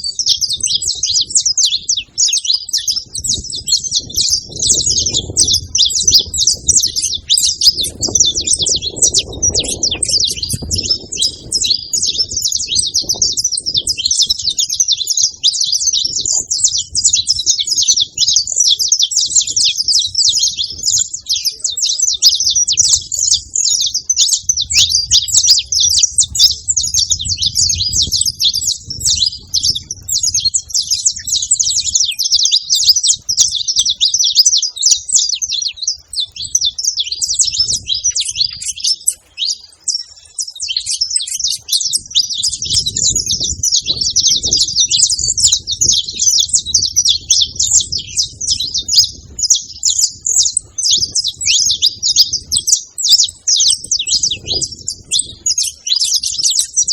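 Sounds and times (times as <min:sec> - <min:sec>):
finch singing rapid chirps: 0:00.0 - 0:56.9.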